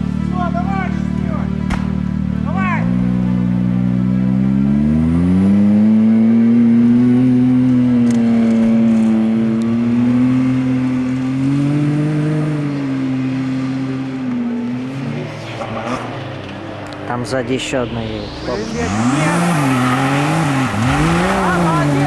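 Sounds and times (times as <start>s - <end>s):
car engine running hard: 0.0s - 22.0s.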